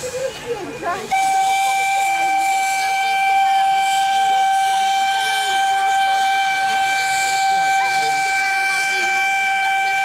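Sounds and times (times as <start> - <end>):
steam locomotive whistle blast: 1.1 - 10.0.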